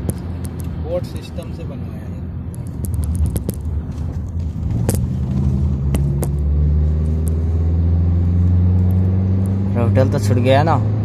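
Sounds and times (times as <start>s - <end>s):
car engine hum: 0.0s - 11.0s
road rumble: 0.0s - 11.0s.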